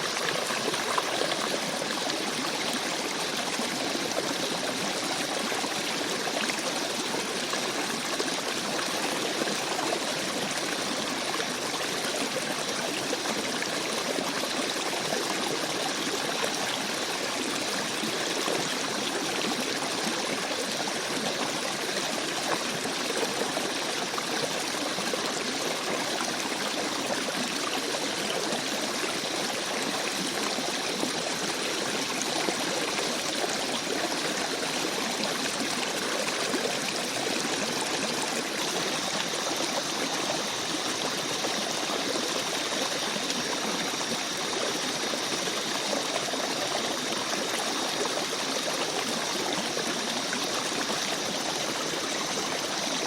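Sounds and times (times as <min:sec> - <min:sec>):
stream babbling over rocks: 0:00.0 - 0:53.0.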